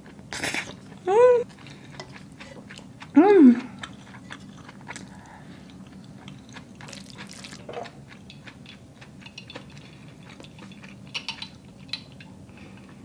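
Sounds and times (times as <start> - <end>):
soft chewing with wet clicks: 0.0 - 13.0.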